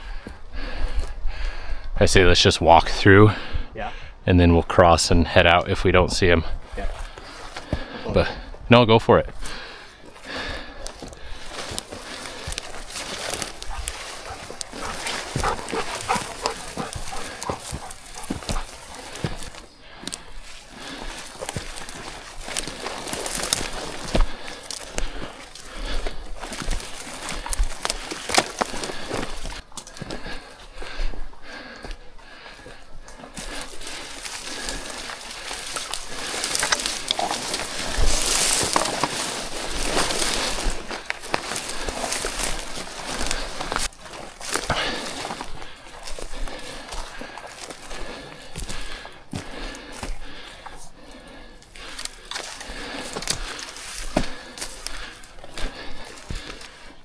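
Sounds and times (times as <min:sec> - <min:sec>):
footsteps on rocky ground: 0:00.0 - 0:01.5, 0:06.5 - 0:08.6, 0:09.2 - 0:57.0.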